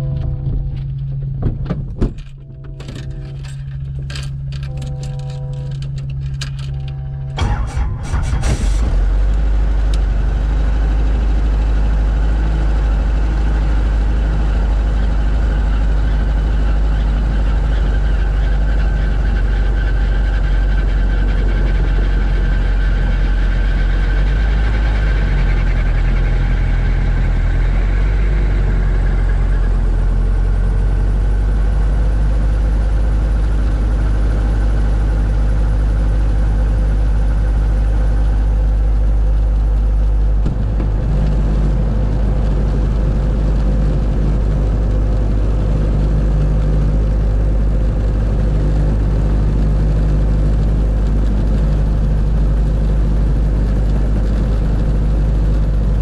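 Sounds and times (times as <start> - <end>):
high whine: 0.0 - 56.0
helicopter engine idling: 2.2 - 56.0.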